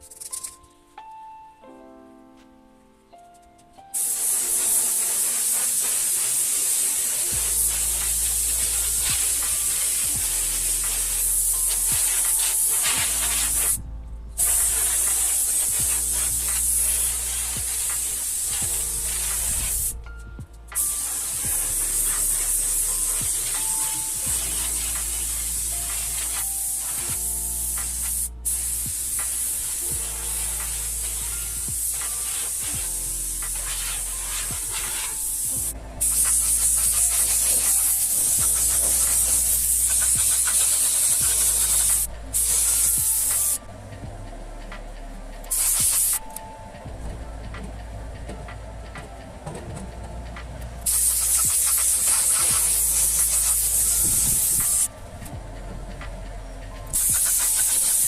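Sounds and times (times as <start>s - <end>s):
spray hiss: 0.0s - 0.7s, 3.9s - 43.8s, 44.9s - 46.6s, 50.5s - 55.1s, 56.8s - 58.0s
background music with sustained notes: 0.0s - 58.0s.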